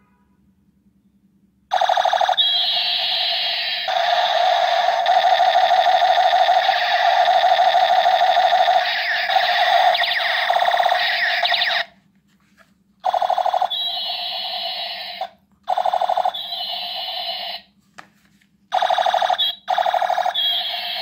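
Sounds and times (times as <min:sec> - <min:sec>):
toy gun electronic rattle: 0:01.7 - 0:11.9, 0:13.0 - 0:17.6, 0:18.7 - 0:21.0.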